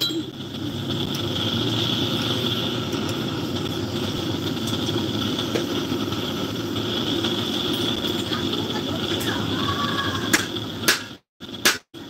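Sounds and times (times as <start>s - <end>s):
steady mechanical drone: 0.0s - 12.0s.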